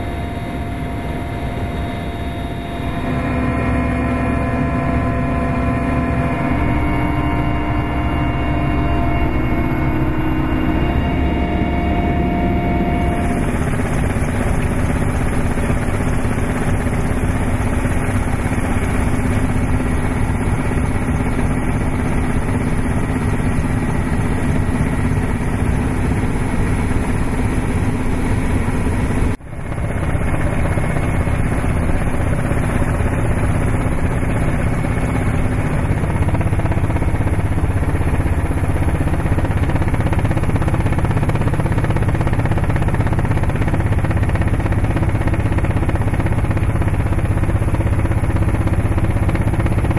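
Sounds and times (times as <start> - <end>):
helicopter engine and rotor: 0.0 - 49.9.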